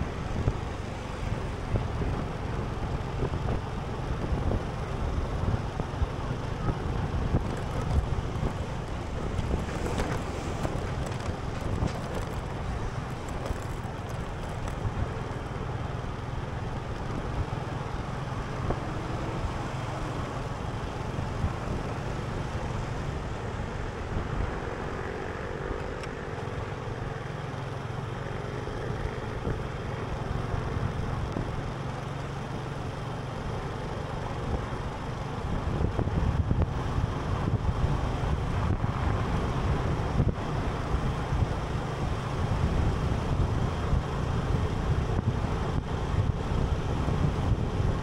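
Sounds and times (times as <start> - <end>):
faint engine hum: 0.0 - 48.0
road noise rumble: 0.0 - 48.0.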